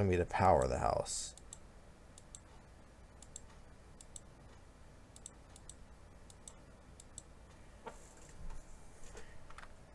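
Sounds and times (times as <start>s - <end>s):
low steady hum: 0.0s - 9.9s.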